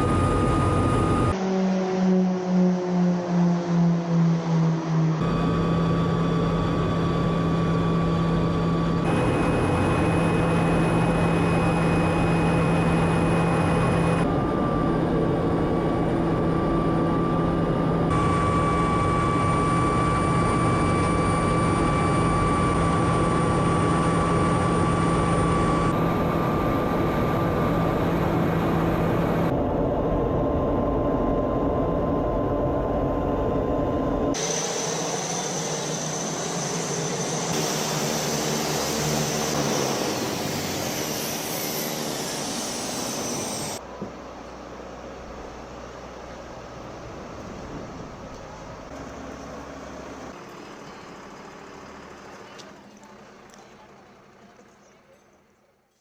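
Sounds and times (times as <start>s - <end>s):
turboprop engine drone and whine: 0.0s - 55.9s.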